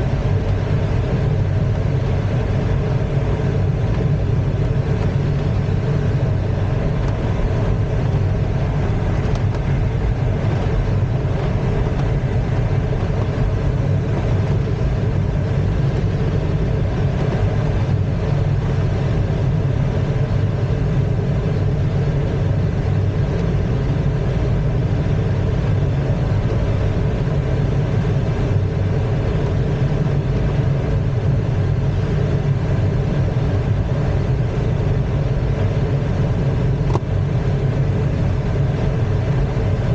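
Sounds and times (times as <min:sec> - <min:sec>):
air rushing over cockpit: 0:00.0 - 0:39.9
plane engine drone: 0:00.0 - 0:39.9.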